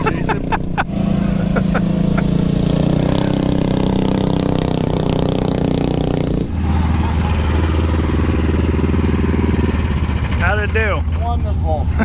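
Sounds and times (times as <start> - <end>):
mini bike engine running: 1.4 - 12.0.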